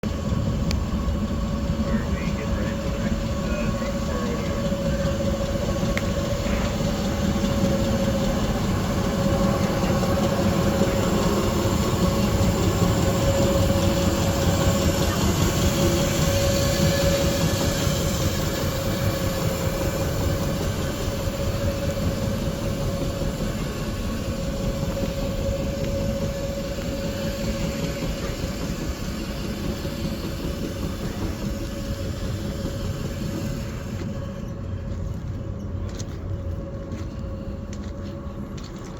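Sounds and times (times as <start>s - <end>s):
constant mechanical whine: 0.0s - 38.9s
subway car running on rails: 0.0s - 38.9s.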